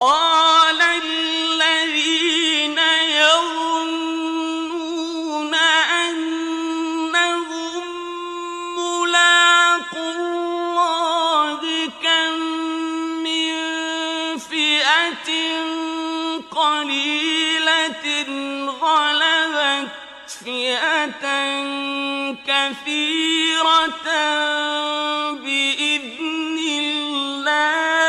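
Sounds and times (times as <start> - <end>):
man chanting melodically: 0.0 - 28.0.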